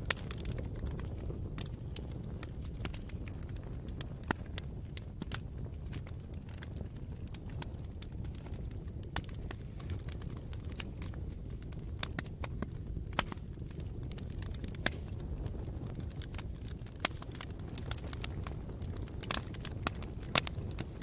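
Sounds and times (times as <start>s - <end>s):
campfire crackling and popping: 0.0s - 21.0s
fire low rumble: 0.0s - 21.0s.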